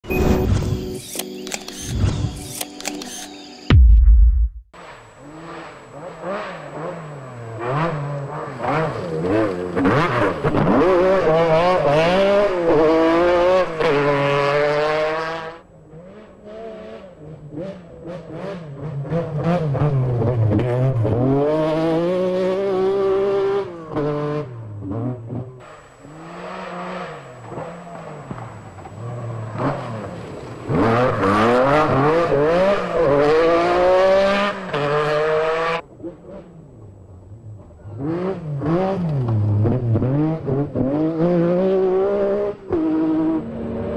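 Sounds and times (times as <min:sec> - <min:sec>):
rally engine revving hard: 0:04.8 - 0:36.7, 0:37.8 - 0:43.9.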